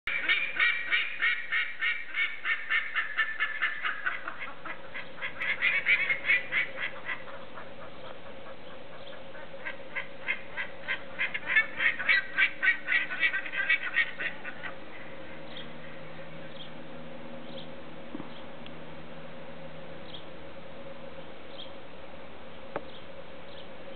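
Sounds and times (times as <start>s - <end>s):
faint steady hum: 0.1s - 23.9s.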